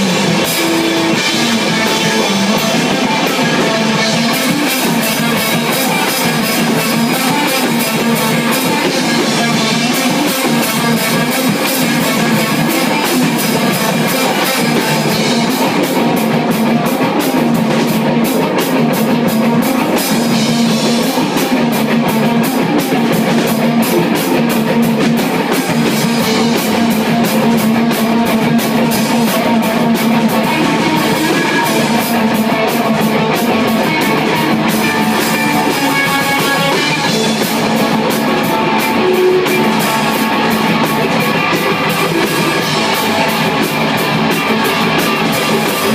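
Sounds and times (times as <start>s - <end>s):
rock band playing loudly: 0.0s - 45.9s.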